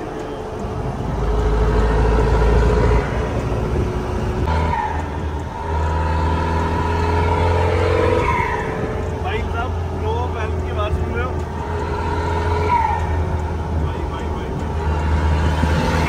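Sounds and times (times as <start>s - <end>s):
turbocharged engine pulling: 0.0s - 16.0s.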